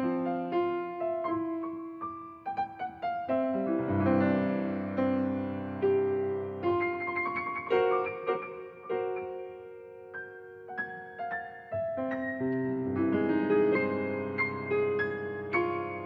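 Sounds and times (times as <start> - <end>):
solo piano piece: 0.0 - 16.0.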